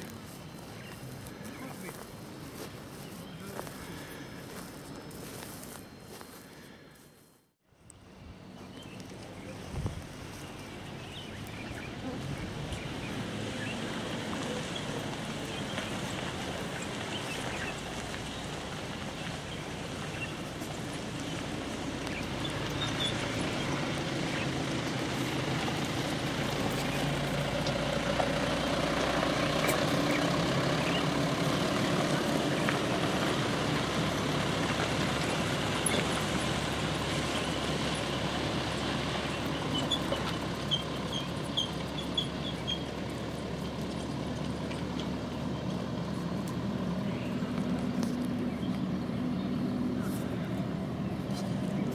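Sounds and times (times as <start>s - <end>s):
motor vehicle running: 0.0s - 51.9s.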